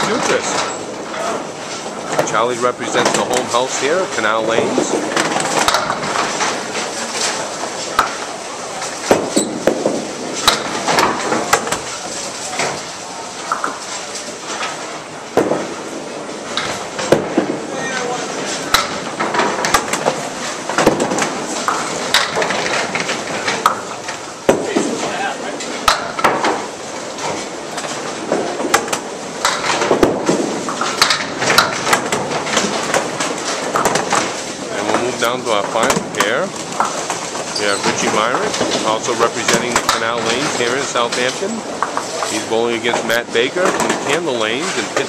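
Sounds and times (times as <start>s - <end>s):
bowling balls rolling on wooden lanes: 0.0s - 45.0s
balls striking pins: 1.7s - 17.7s, 18.4s - 45.0s.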